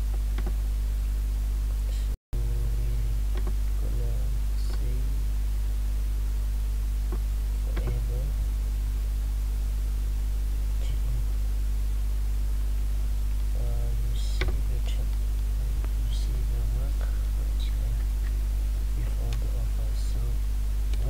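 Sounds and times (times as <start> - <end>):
background hiss: 0.0 - 21.0
low electrical hum: 0.0 - 21.0.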